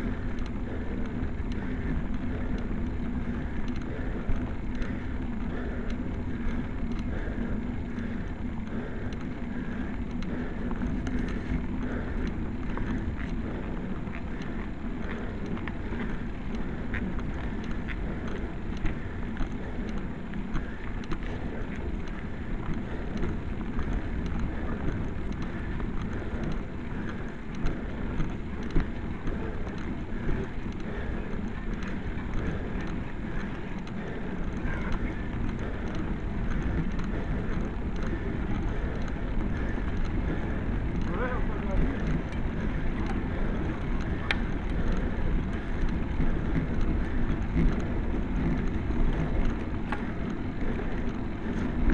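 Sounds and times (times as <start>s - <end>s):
bike clicks and rattles: 0.0s - 51.9s
road rumble: 0.0s - 51.9s
wind buffeting microphone: 0.0s - 51.9s.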